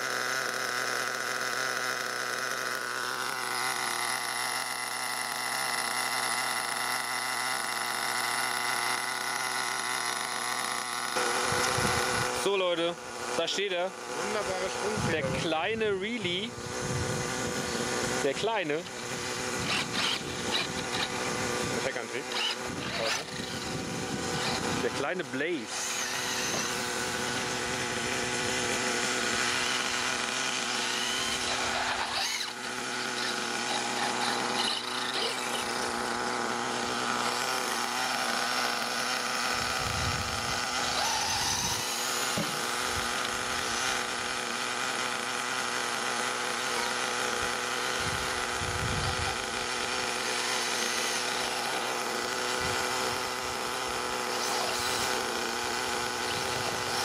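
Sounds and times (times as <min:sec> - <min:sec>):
small nitro engine idling fast: 0:00.0 - 0:57.0.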